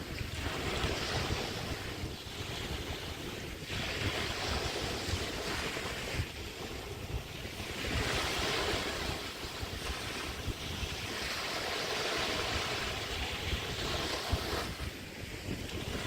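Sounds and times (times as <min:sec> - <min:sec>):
waves washing up a sandy beach: 0:00.0 - 0:16.0
wind buffeting microphone: 0:00.0 - 0:16.0.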